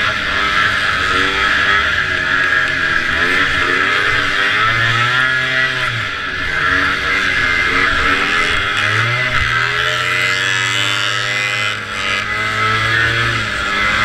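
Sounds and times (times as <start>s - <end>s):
snowmobile two-stroke engine revving: 0.0s - 14.0s.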